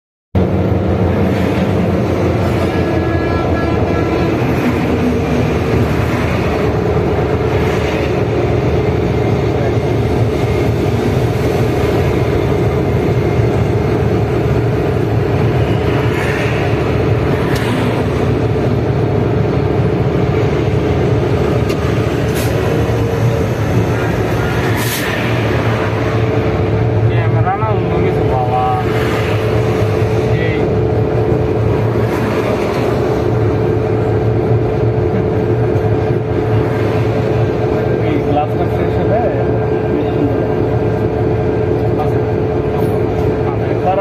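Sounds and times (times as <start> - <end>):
train rumbling on a bridge: 0.4 - 44.0.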